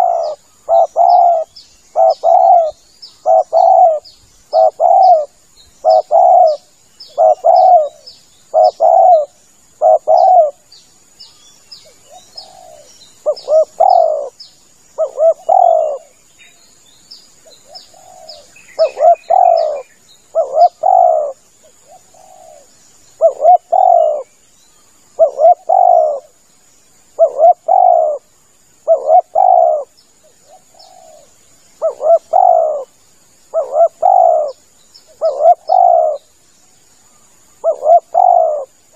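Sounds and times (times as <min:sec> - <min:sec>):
dove cooing: 0:00.0 - 0:10.6, 0:11.9 - 0:14.4, 0:15.0 - 0:16.1, 0:17.7 - 0:24.3, 0:25.1 - 0:26.3, 0:27.2 - 0:32.9, 0:33.5 - 0:36.3, 0:37.6 - 0:38.8
small birds chirping: 0:00.0 - 0:38.9.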